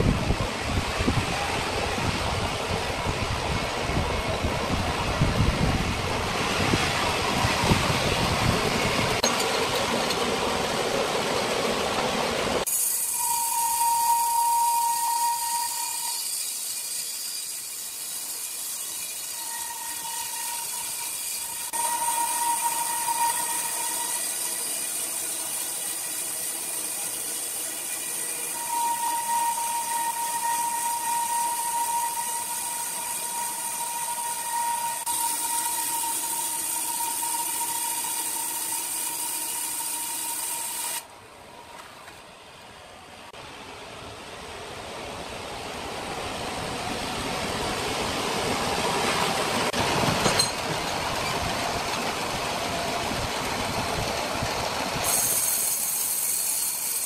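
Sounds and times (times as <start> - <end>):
band saw whining through log: 0.0 - 41.1, 45.9 - 57.0.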